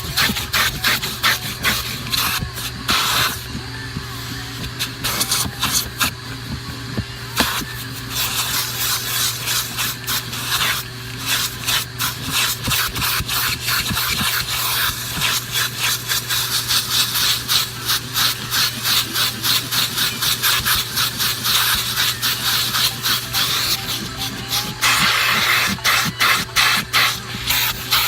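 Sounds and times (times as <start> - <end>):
brush scrubbing carpet: 0.0 - 3.6, 4.6 - 6.1, 7.4 - 28.0
vacuum cleaner humming: 0.0 - 28.0.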